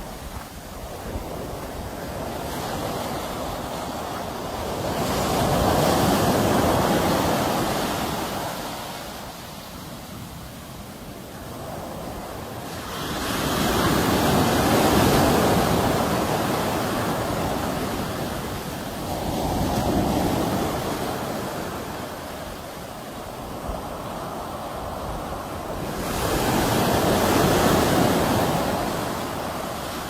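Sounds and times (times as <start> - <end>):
sea waves rushing in: 0.0 - 30.0.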